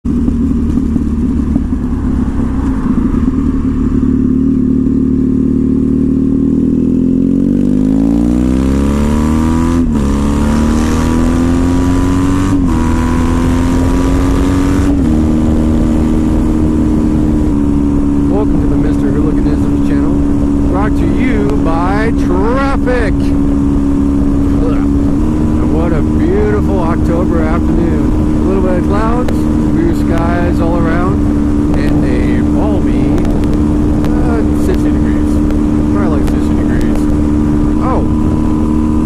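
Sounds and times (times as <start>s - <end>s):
motorcycle engine revving: 0.0s - 39.0s
gear upshifts: 6.7s - 39.0s.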